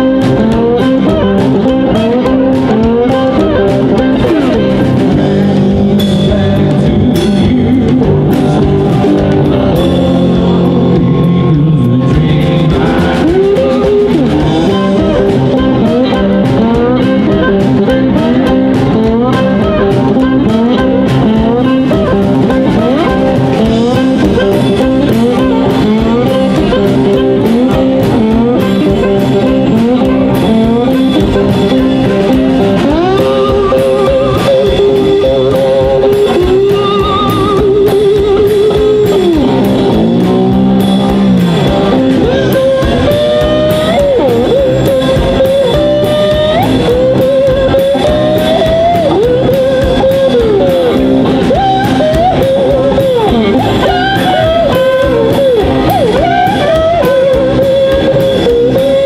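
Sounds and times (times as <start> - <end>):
blues band playing: 0.0 - 59.0
harmonica: 0.0 - 59.0.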